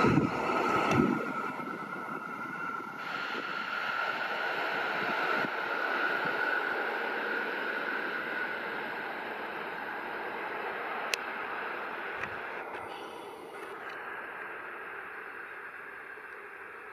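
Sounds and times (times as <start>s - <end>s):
electric train running on track: 0.0s - 16.9s.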